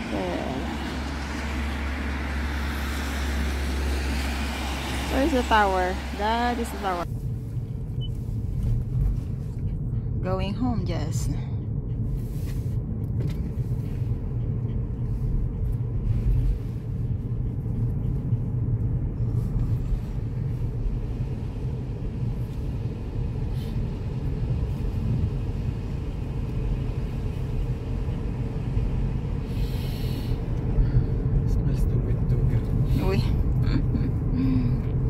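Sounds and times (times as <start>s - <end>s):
car interior low rumble: 0.0s - 35.0s.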